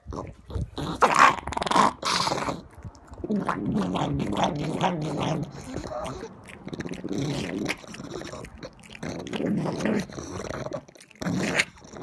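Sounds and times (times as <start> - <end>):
dog vocalizing: 0.0 - 12.0.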